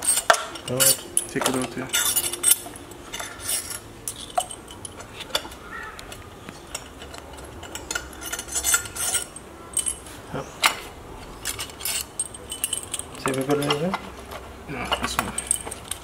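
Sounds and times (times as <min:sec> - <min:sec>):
metal tools clinking and scraping: 0:00.0 - 0:16.0.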